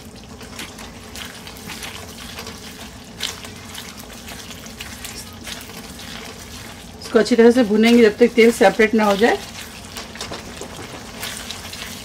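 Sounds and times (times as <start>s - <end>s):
sauce sizzling in oil: 0.0s - 12.0s.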